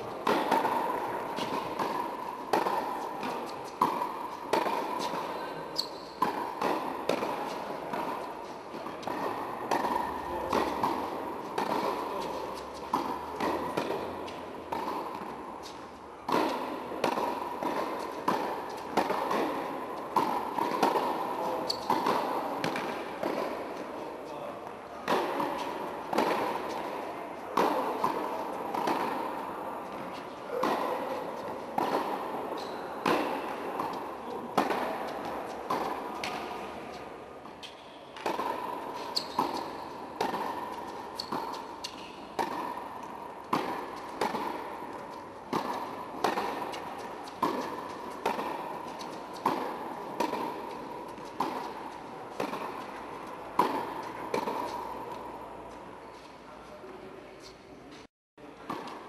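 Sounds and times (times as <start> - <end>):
tennis ball hit by rackets: 0.0 - 56.2, 58.6 - 59.0
tennis ball bouncing on court: 0.0 - 56.3, 57.4 - 59.0.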